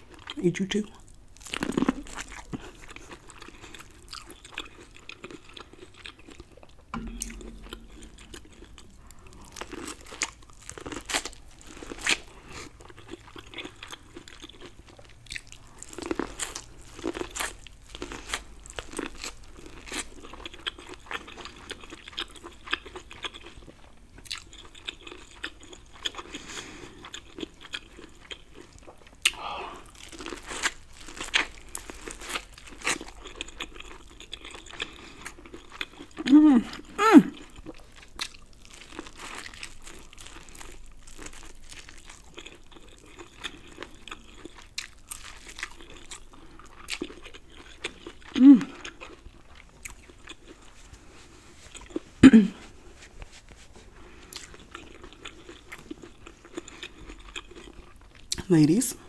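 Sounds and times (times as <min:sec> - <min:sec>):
wet chewing: 0:01.0 - 0:52.2, 0:53.0 - 0:58.5
crunching corn kernels: 0:01.4 - 0:36.2, 0:37.4 - 0:52.0.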